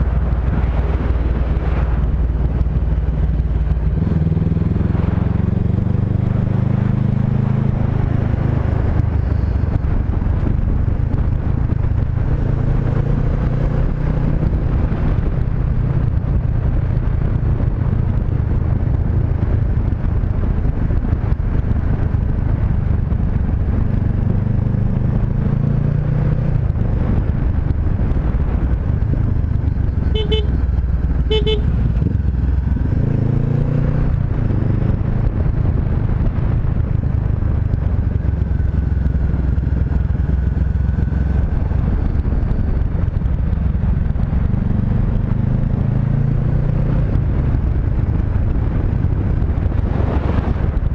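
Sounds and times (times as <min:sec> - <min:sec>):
motorcycle engine running: 0:00.0 - 0:50.9
wind noise: 0:00.0 - 0:50.9.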